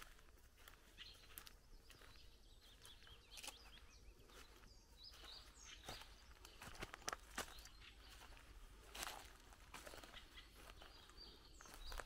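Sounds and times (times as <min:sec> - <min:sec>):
soft footstep clicks: 0:00.0 - 0:04.5, 0:05.1 - 0:11.1
songbird chirps and warbles: 0:00.0 - 0:12.0.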